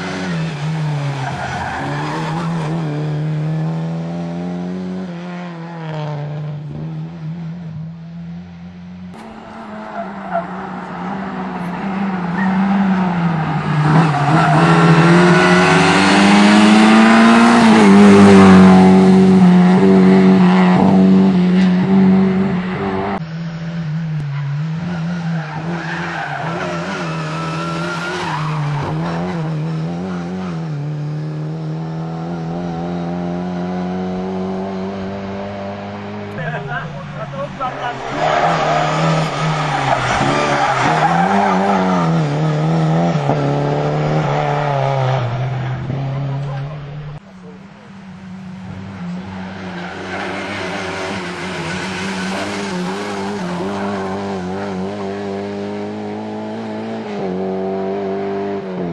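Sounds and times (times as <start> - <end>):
rally car engine revving: 0.0 - 58.9
road noise: 0.0 - 58.9.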